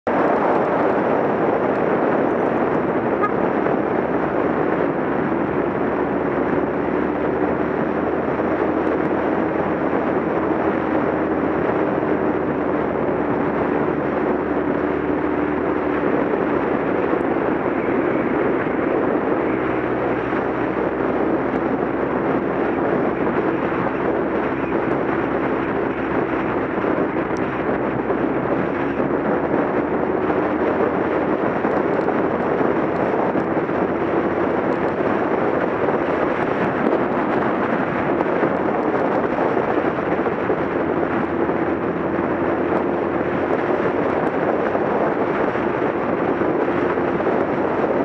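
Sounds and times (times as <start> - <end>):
motorcycle engine drone: 0.0 - 48.0
wind rushing over microphone: 0.0 - 48.0.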